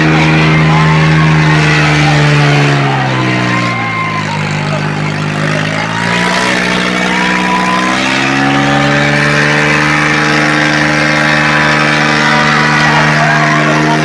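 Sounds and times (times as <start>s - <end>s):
tractor diesel engine running hard: 0.0s - 14.0s.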